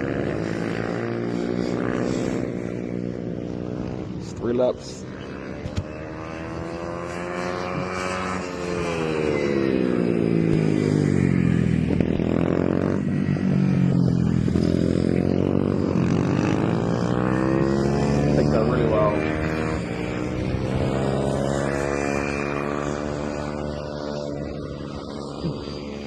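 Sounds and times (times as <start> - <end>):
race motorcycles revving: 0.0 - 26.0.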